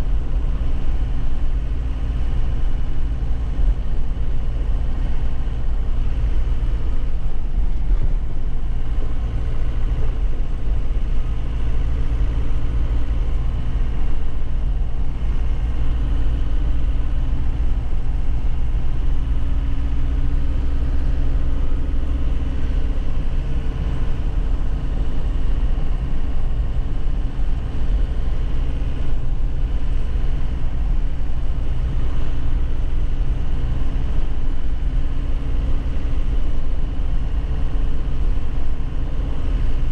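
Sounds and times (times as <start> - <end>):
diesel truck engine running: 0.0 - 39.9
road rumble: 0.0 - 39.9.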